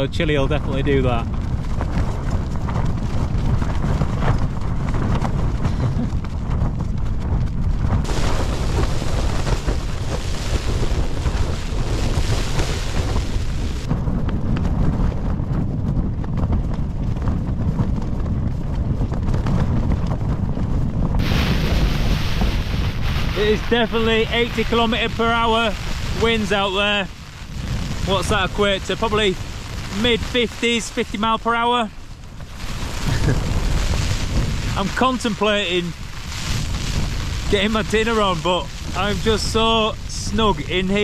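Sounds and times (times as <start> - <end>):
wind buffeting tent fabric: 0.0 - 41.0.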